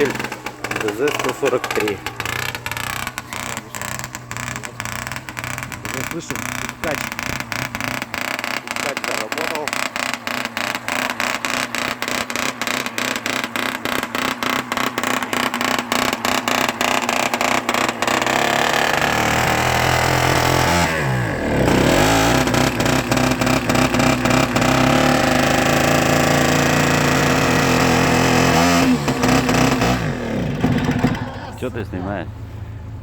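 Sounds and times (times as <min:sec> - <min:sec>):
small engine popping: 0:00.0 - 0:32.7
deep engine drone: 0:00.0 - 0:33.0.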